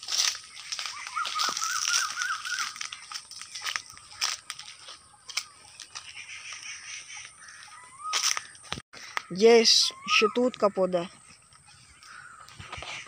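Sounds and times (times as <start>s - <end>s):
footsteps on dry grass: 0.0s - 13.0s
bird warbling: 0.5s - 13.0s.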